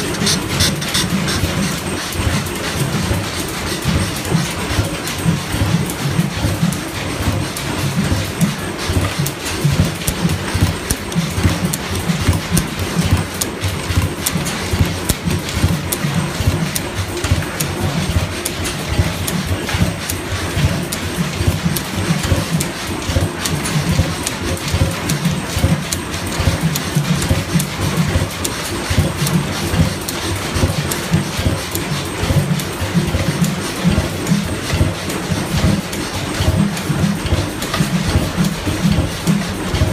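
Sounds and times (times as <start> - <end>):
stationary engine pulsing: 0.0 - 39.9.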